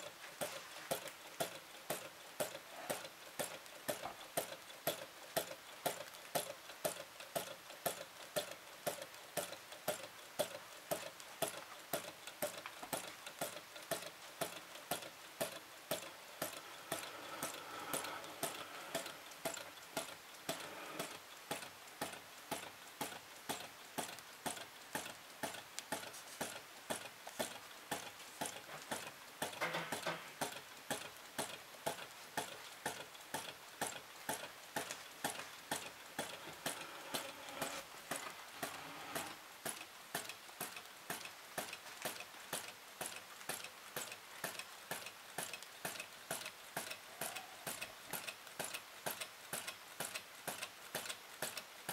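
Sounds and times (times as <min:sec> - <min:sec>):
model engine ticking: 0:00.0 - 0:51.9.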